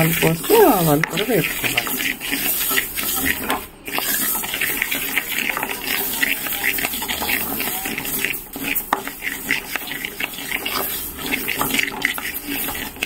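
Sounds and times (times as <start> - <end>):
seeds roasting in metal pan: 0.0 - 13.0
wooden spatula stirring: 0.0 - 13.0.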